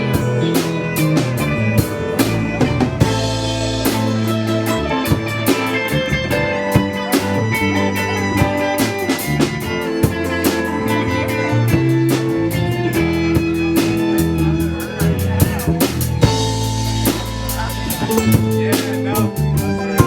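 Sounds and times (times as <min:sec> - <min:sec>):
electric guitar playing: 0:00.0 - 0:15.2, 0:16.0 - 0:20.0
drum kit beat: 0:00.0 - 0:20.0.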